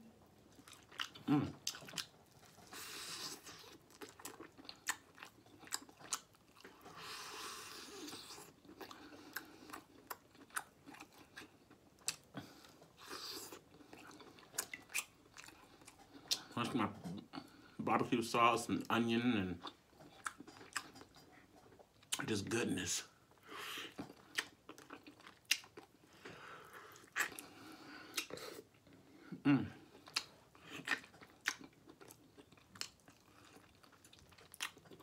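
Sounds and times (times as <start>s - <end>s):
person chewing meat: 0.4s - 17.7s, 19.6s - 22.2s, 23.3s - 29.2s, 29.8s - 35.0s.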